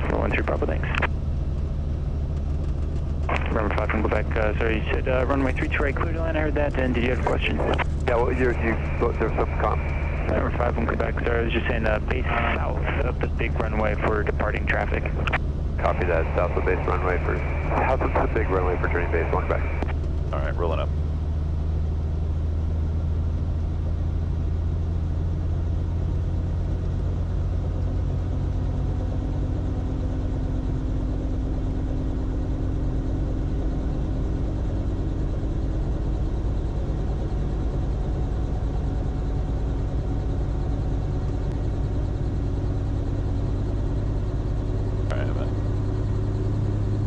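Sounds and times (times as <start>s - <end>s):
helicopter engine and rotor: 0.0s - 47.0s.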